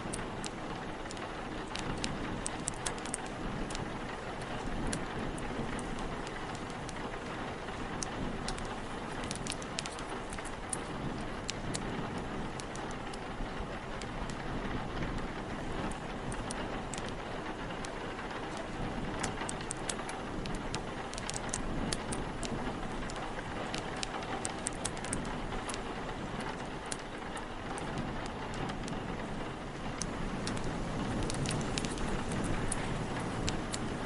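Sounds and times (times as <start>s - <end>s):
steady rain: 0.0s - 34.0s
wind: 0.0s - 34.0s
wood fire crackling: 0.0s - 34.0s.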